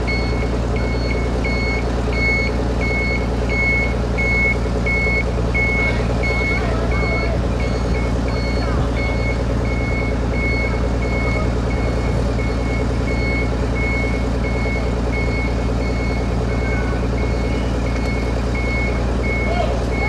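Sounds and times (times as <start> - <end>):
diesel engine running: 0.0 - 20.0
high warning beeps: 0.1 - 20.0.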